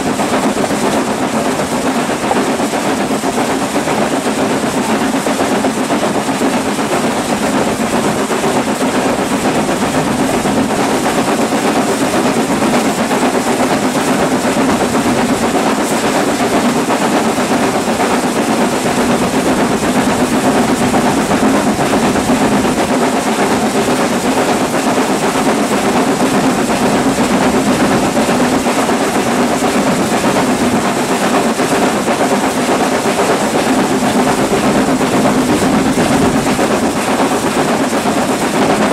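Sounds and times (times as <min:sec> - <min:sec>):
steam locomotive running: 0:00.0 - 0:38.9.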